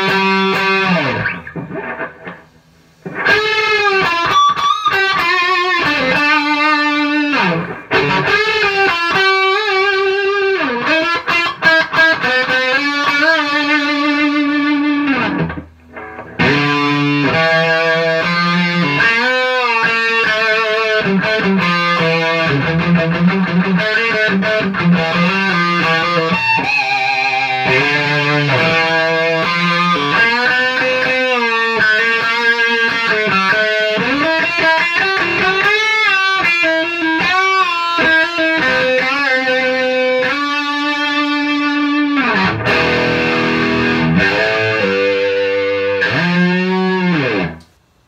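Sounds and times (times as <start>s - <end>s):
distorted electric guitar: 0.0s - 47.8s.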